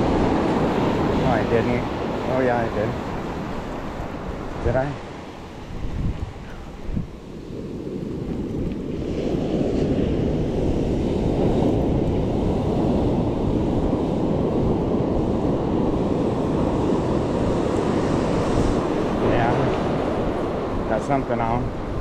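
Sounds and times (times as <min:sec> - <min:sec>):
ocean surf rushing: 0:00.0 - 0:22.0
wind buffeting microphone: 0:00.0 - 0:22.0.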